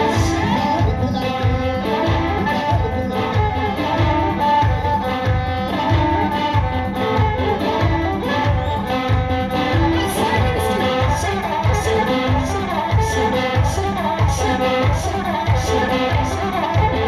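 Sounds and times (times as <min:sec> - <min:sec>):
heavy drum beat: 0:00.0 - 0:17.0
person singing: 0:00.0 - 0:17.0
string instruments: 0:00.0 - 0:17.0.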